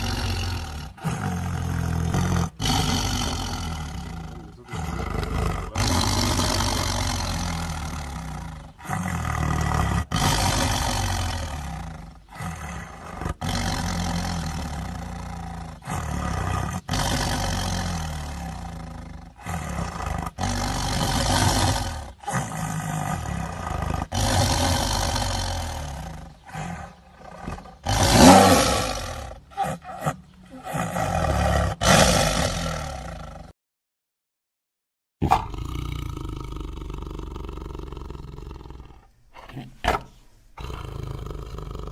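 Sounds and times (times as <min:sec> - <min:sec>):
tiger roaring: 0:00.0 - 0:33.5, 0:35.2 - 0:41.9.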